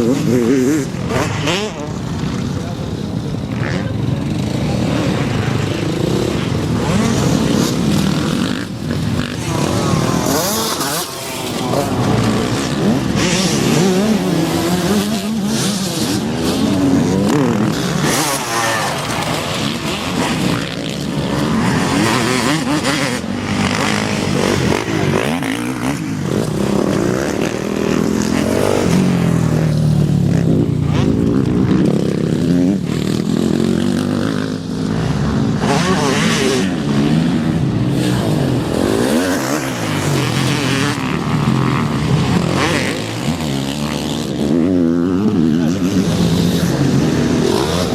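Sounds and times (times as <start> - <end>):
motocross bikes revving: 0.0 - 47.9.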